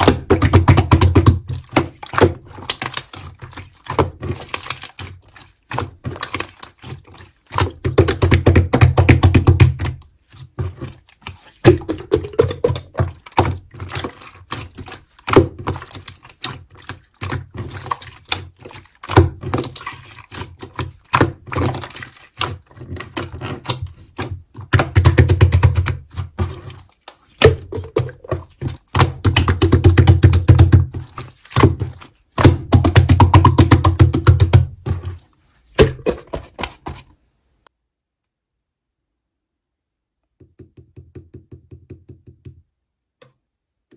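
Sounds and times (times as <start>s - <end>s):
slime squelching thuds: 0.0s - 37.1s.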